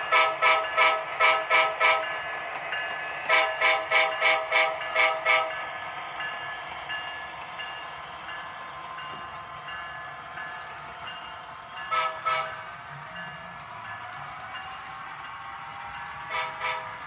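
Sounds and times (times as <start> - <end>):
model locomotive bell ringing: 0.0 - 17.0
model train running sound: 0.0 - 17.0.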